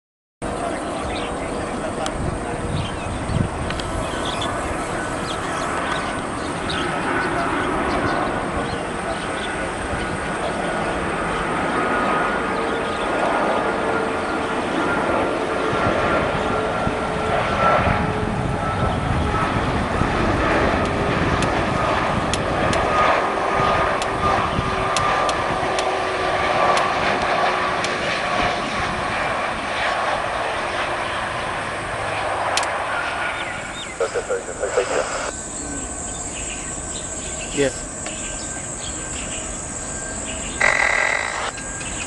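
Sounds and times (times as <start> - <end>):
jet engines roaring: 0.4 - 42.0.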